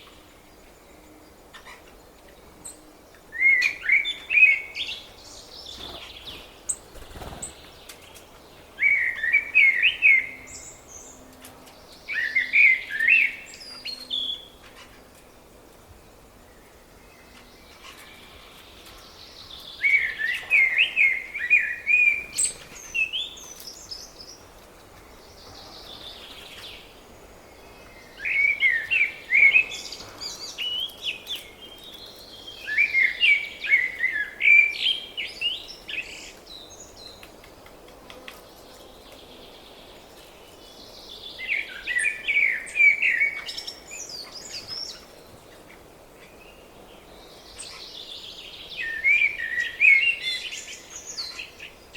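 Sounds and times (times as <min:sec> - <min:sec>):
songbird chirping: 0:00.0 - 0:51.9.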